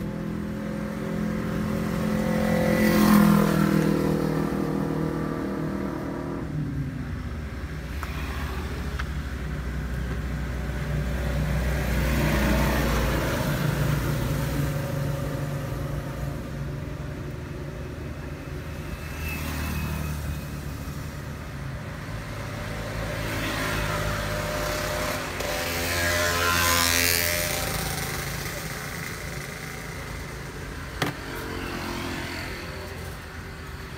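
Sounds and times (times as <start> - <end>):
passing vehicles: 0.0 - 33.9.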